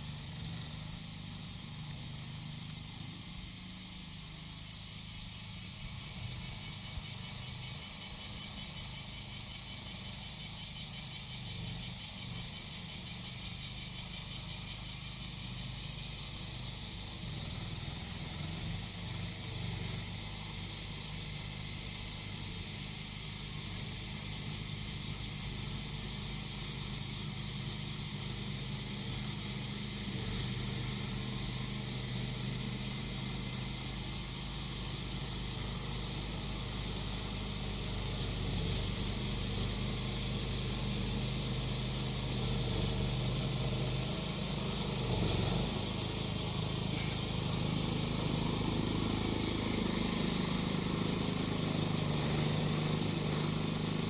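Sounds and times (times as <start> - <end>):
cicadas buzzing: 0.0 - 54.0
small engine of grass cutter: 0.0 - 54.0.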